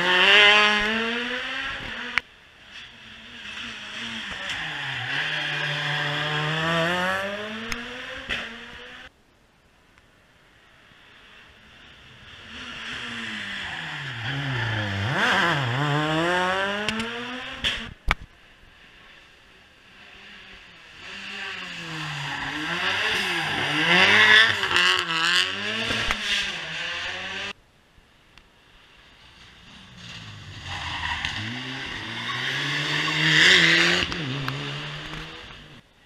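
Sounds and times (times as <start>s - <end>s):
rally car engines revving: 0.0s - 9.1s, 11.6s - 18.0s, 18.7s - 27.6s, 29.1s - 35.8s.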